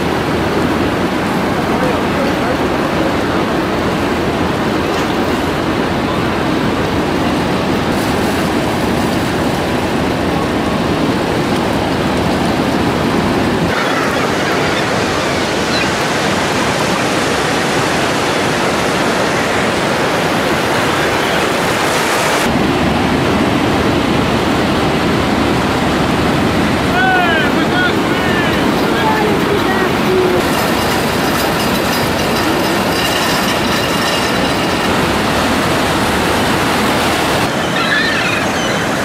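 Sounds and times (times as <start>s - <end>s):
ocean surf breaking on beach: 0.0s - 39.0s.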